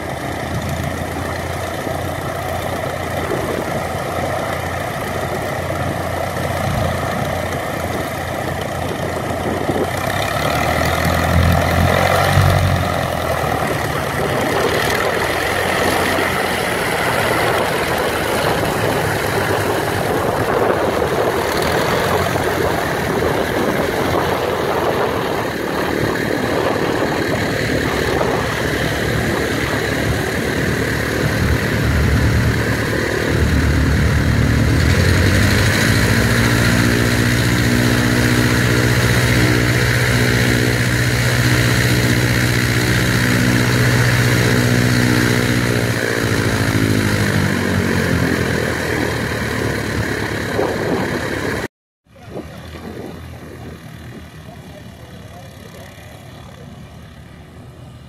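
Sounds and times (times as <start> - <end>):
biplane engine and propeller running: 0.0 - 58.0.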